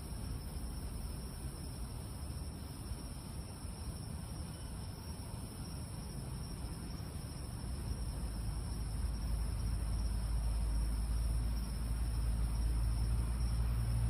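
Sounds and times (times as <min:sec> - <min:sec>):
night insect chorus: 0:00.0 - 0:14.0.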